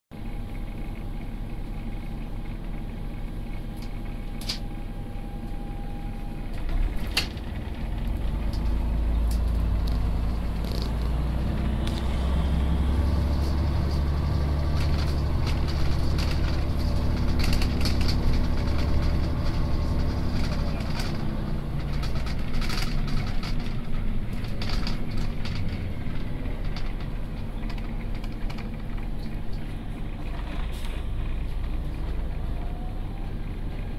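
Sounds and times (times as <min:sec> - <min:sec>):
heavy vehicle engine rumbling: 0:00.1 - 0:33.9
street traffic noise: 0:00.2 - 0:33.9.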